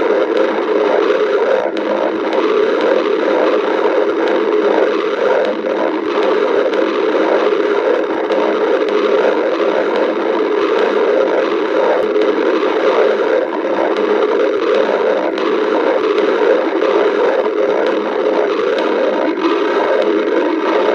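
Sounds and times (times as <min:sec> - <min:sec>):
stomach growling: 0:00.0 - 0:20.9.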